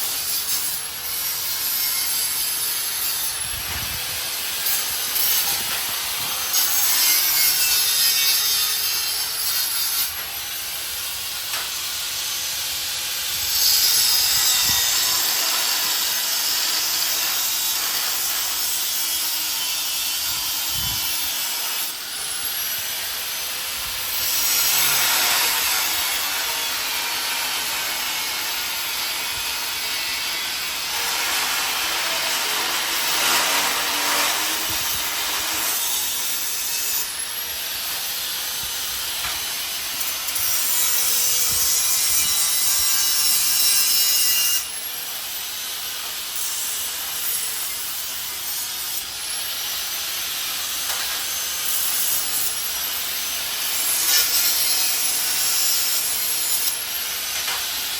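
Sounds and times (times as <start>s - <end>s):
harsh rasping of metal tools: 0.0s - 57.9s.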